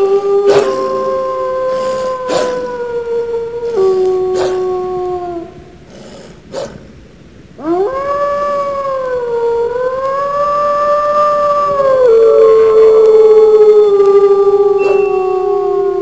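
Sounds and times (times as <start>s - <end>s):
wolf howling: 0.0s - 7.0s, 7.6s - 16.0s.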